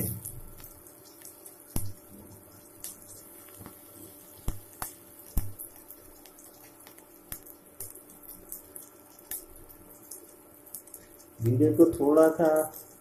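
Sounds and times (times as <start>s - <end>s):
crackling pops: 0.0s - 12.9s
seeds sizzling in hot oil: 0.0s - 13.0s.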